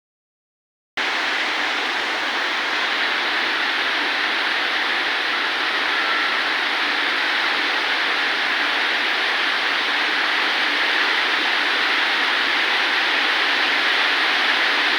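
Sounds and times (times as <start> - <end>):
rain falling: 1.1 - 14.9.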